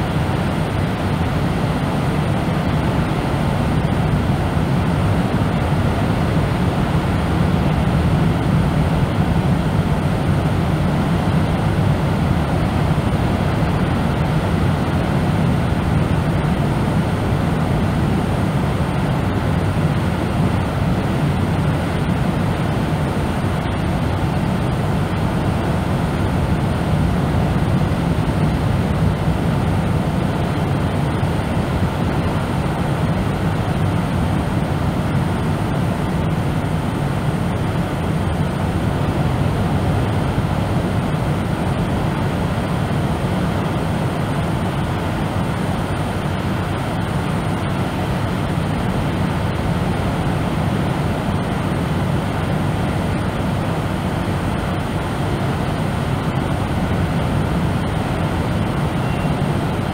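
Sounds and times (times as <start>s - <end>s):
deep brown noise: 0.0s - 59.9s.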